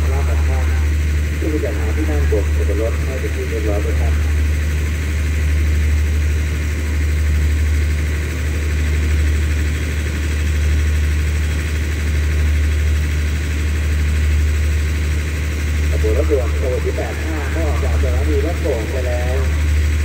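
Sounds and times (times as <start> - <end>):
diesel train engine idling: 0.0 - 20.0.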